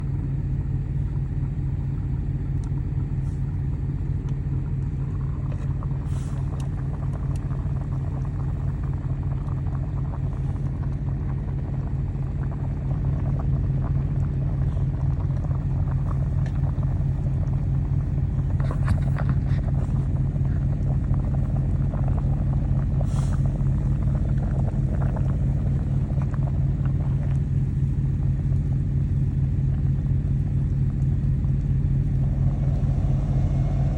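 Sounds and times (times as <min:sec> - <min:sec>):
truck engine rumbling: 0:01.4 - 0:33.9.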